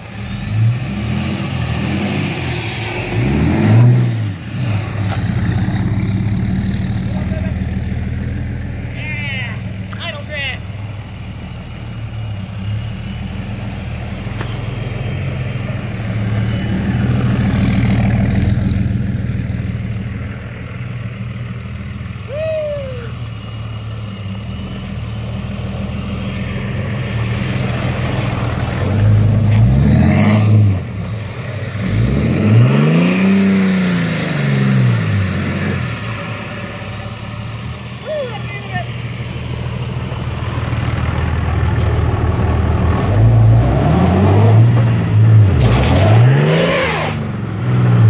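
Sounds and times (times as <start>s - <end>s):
diesel truck engine revving: 0.0s - 48.0s.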